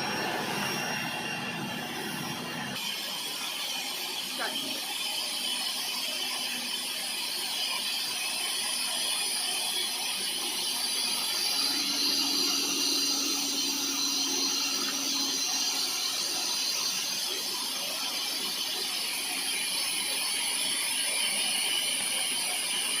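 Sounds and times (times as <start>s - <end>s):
compressed air hissing: 0.0s - 23.0s.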